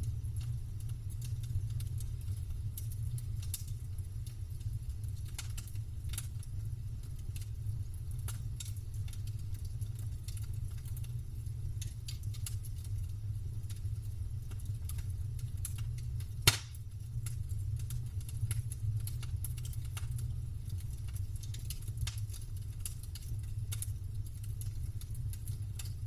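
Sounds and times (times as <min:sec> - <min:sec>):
campfire crackling: 0:00.0 - 0:26.0
low fire rumble: 0:00.0 - 0:26.0.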